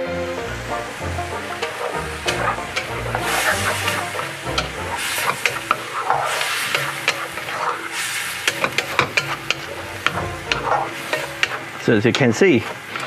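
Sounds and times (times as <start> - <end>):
food sizzling in a wok: 0.0 - 13.0
spatula scraping and tapping pan: 0.9 - 13.0.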